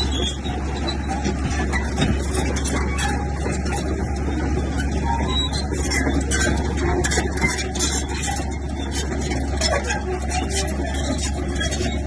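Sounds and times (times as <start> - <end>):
bulldozer diesel engine running: 0.0 - 12.0
irregular clatter: 0.0 - 12.0.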